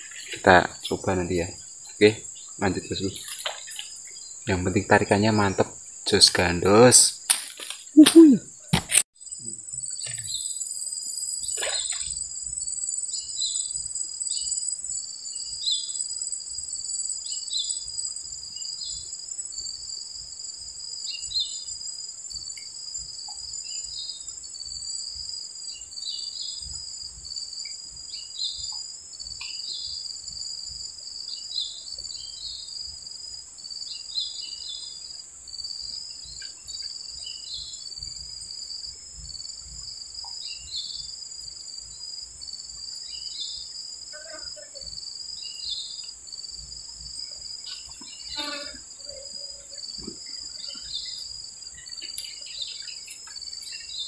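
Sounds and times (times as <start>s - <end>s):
high-pitched insect drone: 0.0s - 7.3s, 8.0s - 54.0s
short insect chirps: 0.0s - 54.0s.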